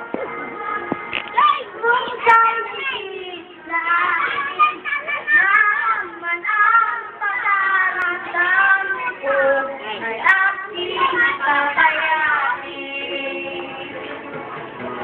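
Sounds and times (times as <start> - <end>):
children singing: 0.0 - 14.6.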